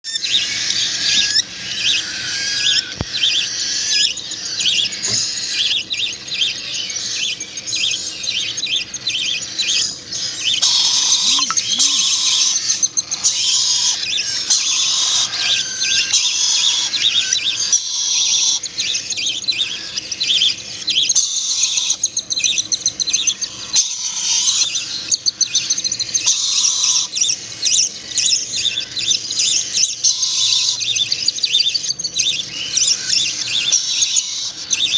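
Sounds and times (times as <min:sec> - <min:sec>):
songbird chicks chirping: 0:00.0 - 0:34.9.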